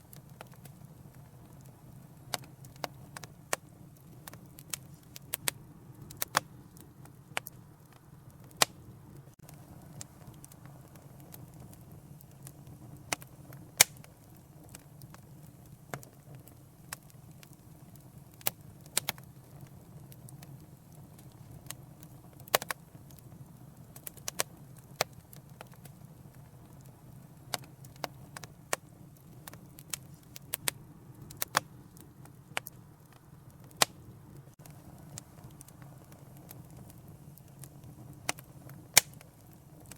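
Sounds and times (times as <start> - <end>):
low rush of burning: 0.0 - 39.9
wood fire pops and snaps: 0.0 - 39.9.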